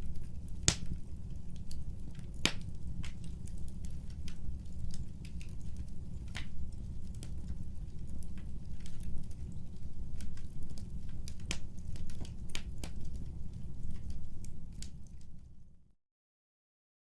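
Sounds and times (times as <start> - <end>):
wood fire pops and crackles: 0.0 - 15.6
fire low rumble: 0.0 - 15.9.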